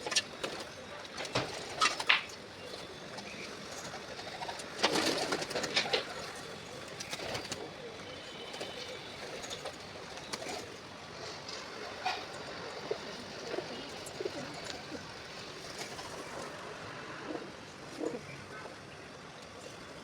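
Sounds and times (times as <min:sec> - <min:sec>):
pigeons cooing: 0:00.0 - 0:18.7.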